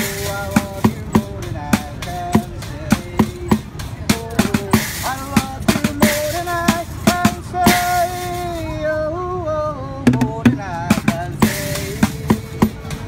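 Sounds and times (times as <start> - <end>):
drumming on plastic buckets: 0.0 - 8.7, 10.1 - 13.0
man singing: 0.0 - 13.0.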